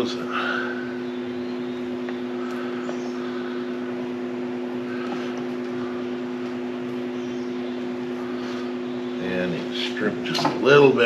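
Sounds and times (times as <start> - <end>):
two-tone background hum: 0.0 - 11.0.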